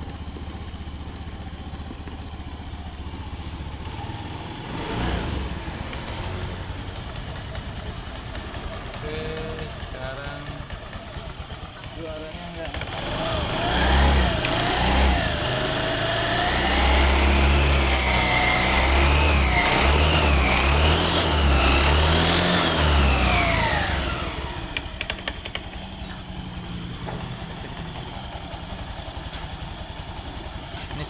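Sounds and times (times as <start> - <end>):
scooter engine revving and idling: 0.0 - 31.0.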